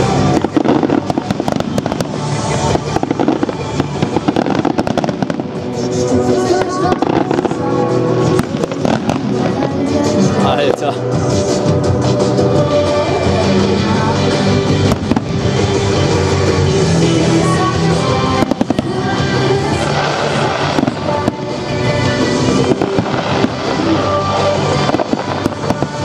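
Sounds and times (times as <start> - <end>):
loud music: 0.0 - 26.0.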